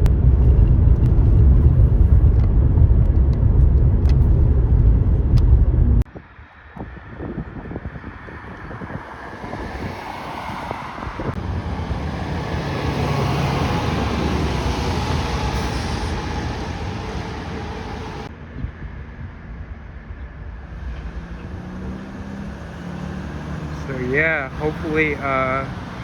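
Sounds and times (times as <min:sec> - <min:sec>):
heavy road vehicle rumble: 0:00.0 - 0:26.0.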